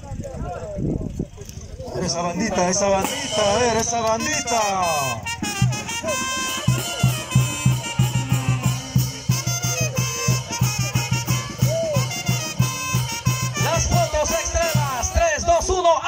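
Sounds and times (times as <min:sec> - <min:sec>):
brass band playing latin dance music: 0:02.8 - 0:16.0
steady bass beat: 0:03.0 - 0:16.0.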